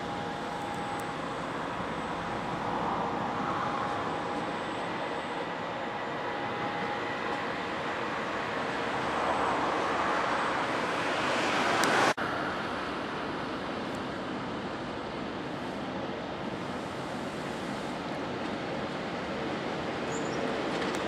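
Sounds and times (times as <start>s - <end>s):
electric train running past: 0.0s - 21.0s
faint steady whine: 0.0s - 21.0s.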